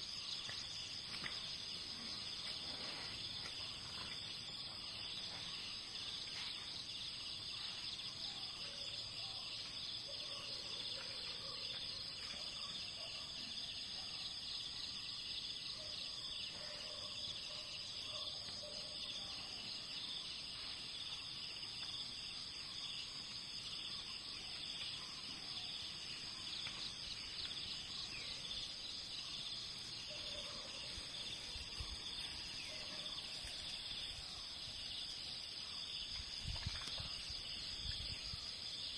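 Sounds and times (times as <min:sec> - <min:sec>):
pulsing cicada chorus: 0:00.0 - 0:38.9.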